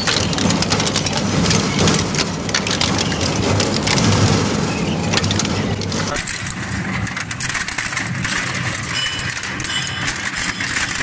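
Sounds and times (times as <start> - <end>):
shredder crunching scrap metal: 0.0 - 11.0.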